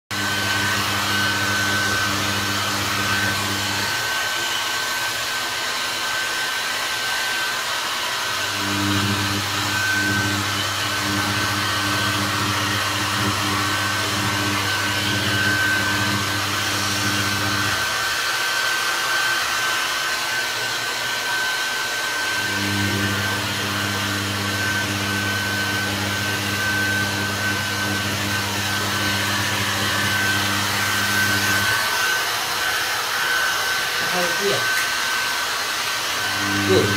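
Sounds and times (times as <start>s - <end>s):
hair dryer blowing: 0.0s - 36.9s.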